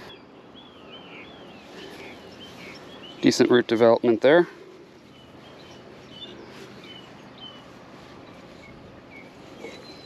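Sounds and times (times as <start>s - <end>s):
faint steady background noise: 0.0s - 10.0s
small birds chirping: 0.0s - 10.0s.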